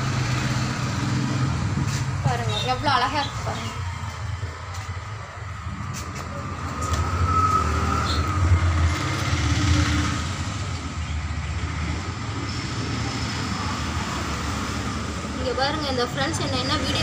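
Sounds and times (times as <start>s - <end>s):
road traffic engine rumble: 0.0s - 17.0s.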